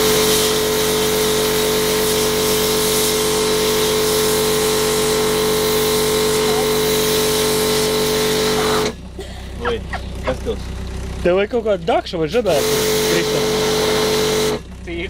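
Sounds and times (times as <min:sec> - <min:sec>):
water jet hissing: 0:00.0 - 0:10.2, 0:12.4 - 0:14.6
pressure washer motor hum: 0:00.0 - 0:15.0.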